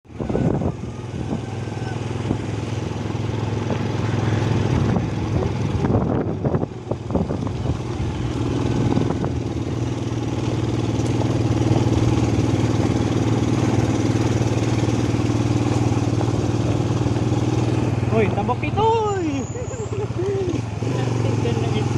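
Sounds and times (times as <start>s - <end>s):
higher even engine tone: 0.1s - 21.9s
motorcycle engine running: 0.1s - 21.9s.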